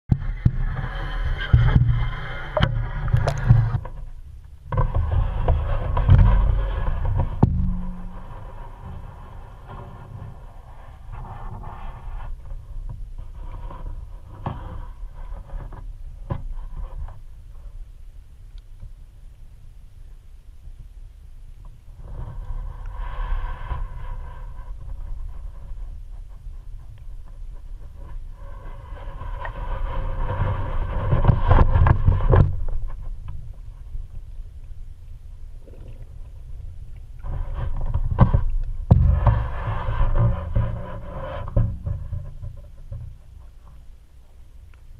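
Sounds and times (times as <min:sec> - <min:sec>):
crackling and knocks: 0:00.1 - 0:19.4, 0:21.5 - 0:44.9
underwater low rumble: 0:00.1 - 0:44.9.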